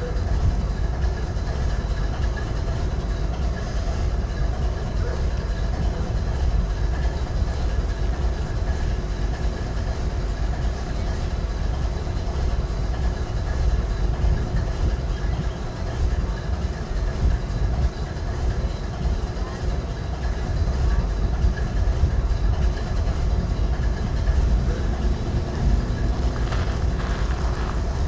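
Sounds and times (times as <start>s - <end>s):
faint steady hum: 0.0s - 28.0s
locomotive engine idling: 0.0s - 28.0s.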